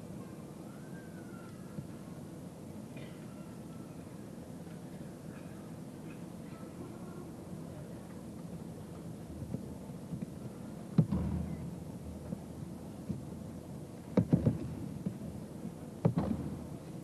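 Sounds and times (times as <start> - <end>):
steady hall hum: 0.0 - 17.0.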